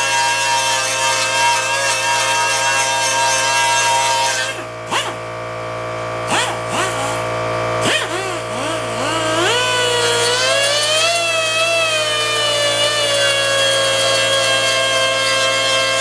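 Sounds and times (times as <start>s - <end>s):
pneumatic die grinder whining: 0.0s - 16.0s.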